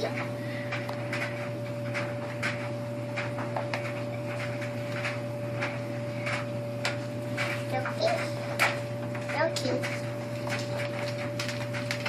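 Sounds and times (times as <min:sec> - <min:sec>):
sticker sheet crackling: 0:00.0 - 0:12.0.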